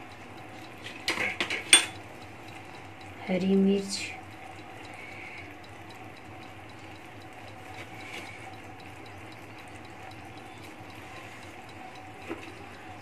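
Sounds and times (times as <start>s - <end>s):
sauce simmering in a pan: 0.0s - 13.0s.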